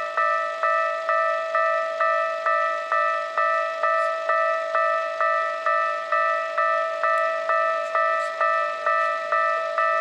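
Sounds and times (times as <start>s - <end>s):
level crossing warning bell: 0.0s - 10.0s.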